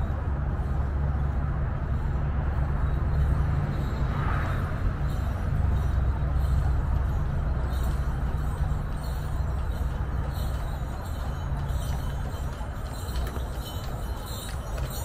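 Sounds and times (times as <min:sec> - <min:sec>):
carriage bells jingling: 0:02.5 - 0:15.0.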